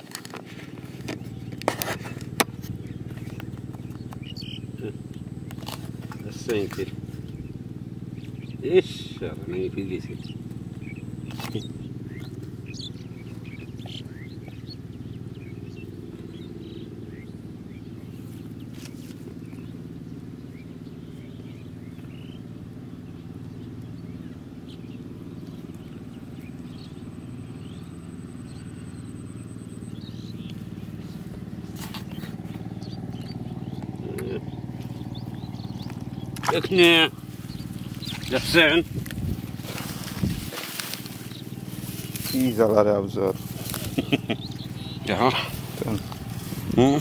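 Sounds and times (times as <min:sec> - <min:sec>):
birds chirping: 0:00.0 - 0:47.0
low engine hum: 0:00.0 - 0:47.0.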